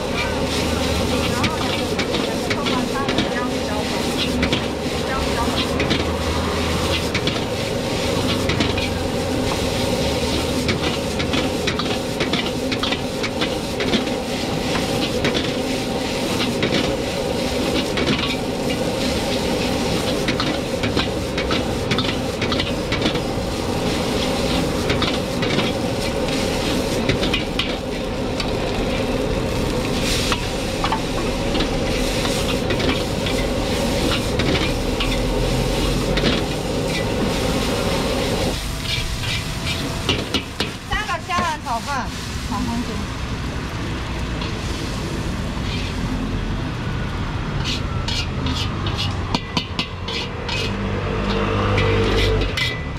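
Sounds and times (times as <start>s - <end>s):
metal spatula scraping a wok: 0.0s - 42.5s, 44.4s - 46.1s, 47.4s - 52.9s
rice sizzling: 0.0s - 52.9s.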